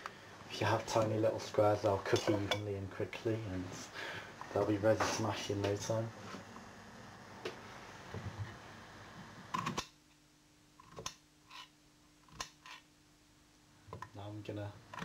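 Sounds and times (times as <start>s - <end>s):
faint steady hum: 0.0s - 15.0s
soft hiss: 0.0s - 15.0s.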